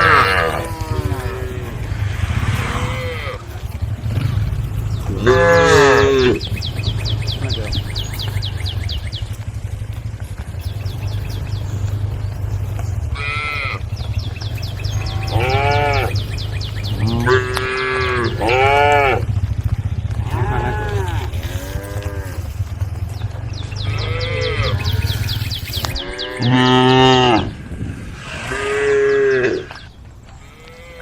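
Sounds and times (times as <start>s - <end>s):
cattle mooing: 0.0s - 8.8s, 13.0s - 19.5s, 20.1s - 22.9s, 23.6s - 31.0s.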